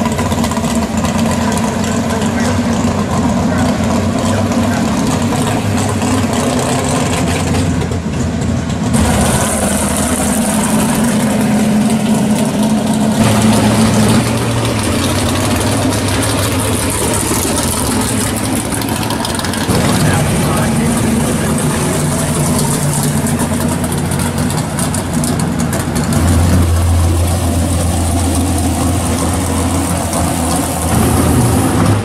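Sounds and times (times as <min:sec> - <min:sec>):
car engines idling: 0:00.0 - 0:32.0.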